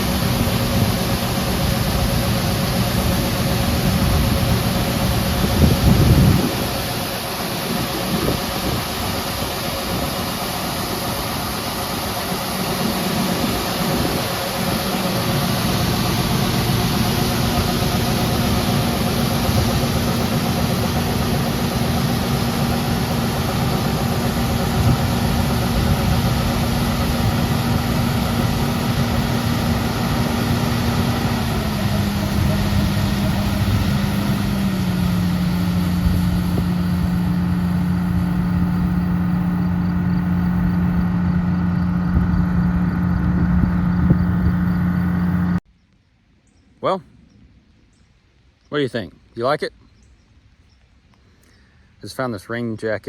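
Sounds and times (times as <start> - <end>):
harvester engine running: 0.0 - 45.6.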